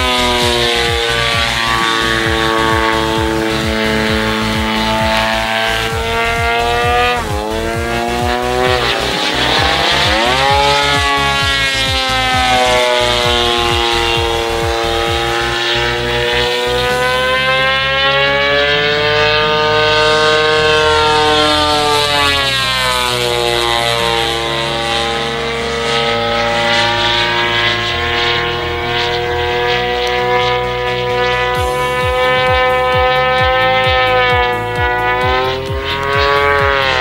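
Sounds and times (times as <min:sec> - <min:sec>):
model plane engine and propeller: 0:00.0 - 0:37.0.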